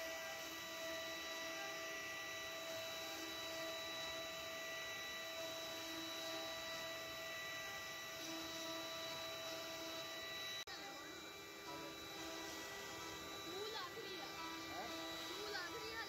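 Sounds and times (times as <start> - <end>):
hiss of wood cutting: 0.0 - 16.0
router spindle whine: 0.0 - 16.0.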